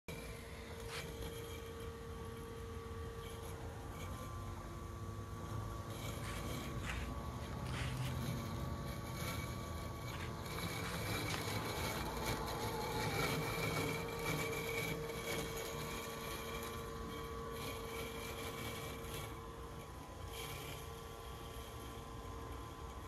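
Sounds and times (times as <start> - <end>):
robotic lawnmower motor whine: 0.1 - 23.0.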